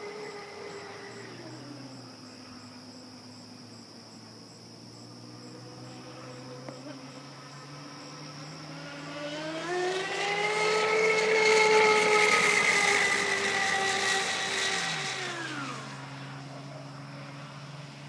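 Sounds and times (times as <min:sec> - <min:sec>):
model speedboat motor whine: 0:00.0 - 0:03.7, 0:04.3 - 0:18.0.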